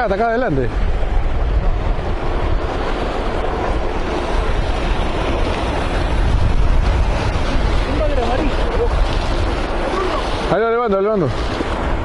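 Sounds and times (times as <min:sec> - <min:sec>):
water washing: 0:00.0 - 0:12.0
wind buffeting microphone: 0:00.0 - 0:12.0.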